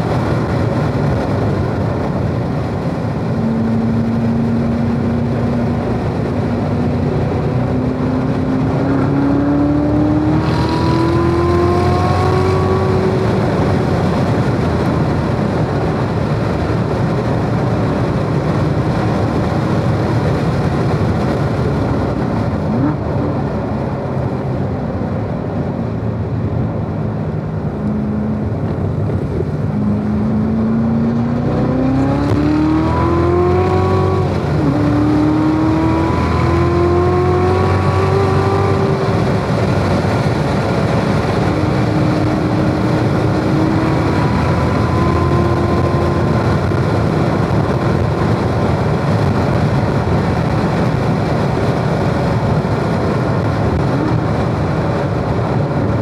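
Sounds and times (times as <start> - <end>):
car engine accelerating: 0.0 - 56.0
wind noise: 0.0 - 56.0.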